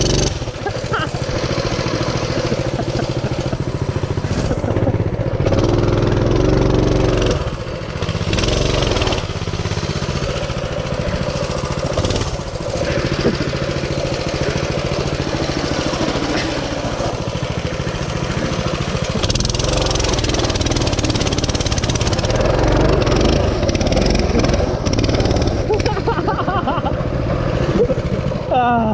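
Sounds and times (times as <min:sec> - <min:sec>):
mini bike engine revving: 0:00.0 - 0:28.9.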